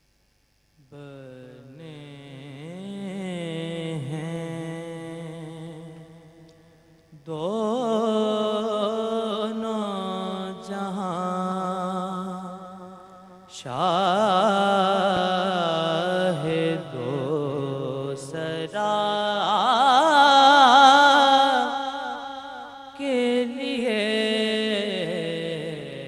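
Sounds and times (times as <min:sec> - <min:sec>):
man chanting solo: 0:00.8 - 0:06.5, 0:07.1 - 0:26.0.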